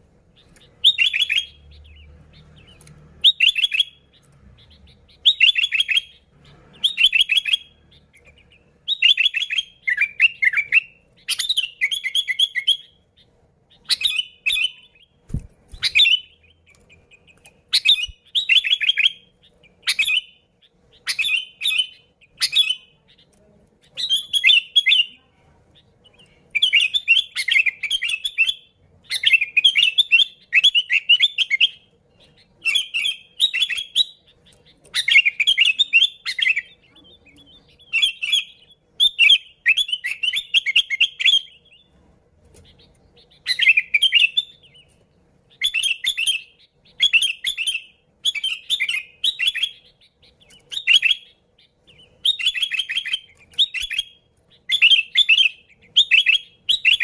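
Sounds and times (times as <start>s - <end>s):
bird singing warbling phrases: 0.2s - 57.0s.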